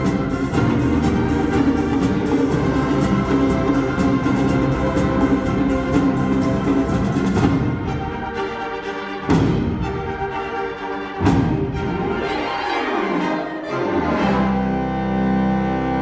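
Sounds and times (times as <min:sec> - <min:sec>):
concert wind band playing: 0:00.0 - 0:16.0.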